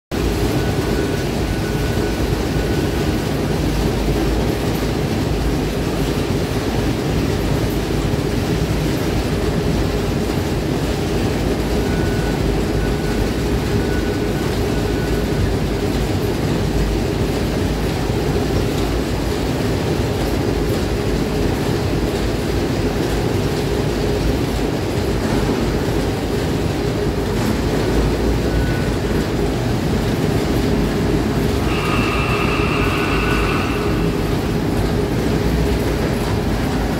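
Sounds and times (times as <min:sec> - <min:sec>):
low machinery noise: 0:00.2 - 0:36.9.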